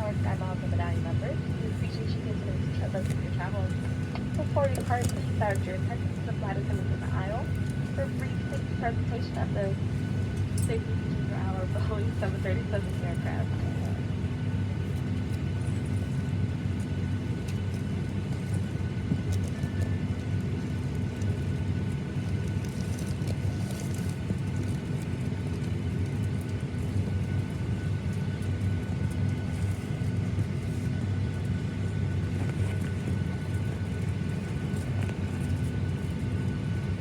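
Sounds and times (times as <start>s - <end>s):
airplane cabin rumble: 0.0s - 37.0s
faint constant whine: 0.0s - 37.0s.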